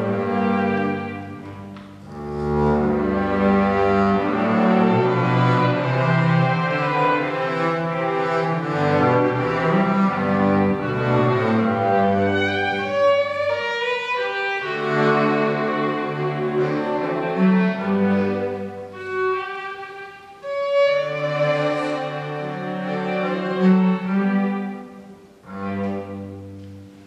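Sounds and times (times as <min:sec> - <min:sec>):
double bass and string quartet: 0:00.0 - 0:27.0.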